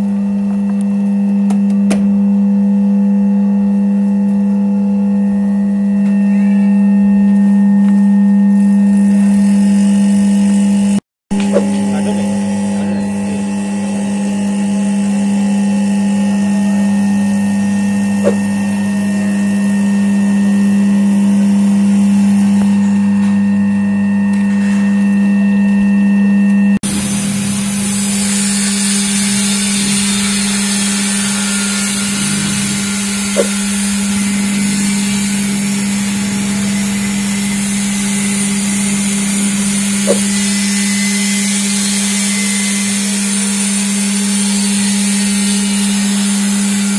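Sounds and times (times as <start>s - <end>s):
oil press motor hum: 0.0s - 46.9s.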